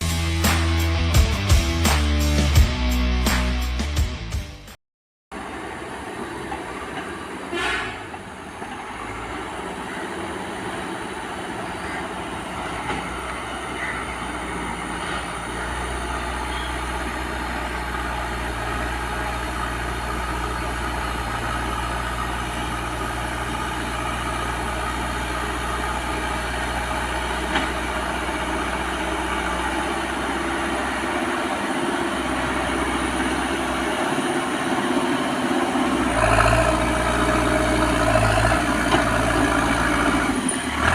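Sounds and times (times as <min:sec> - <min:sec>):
diesel engine running: 0:05.3 - 0:40.9.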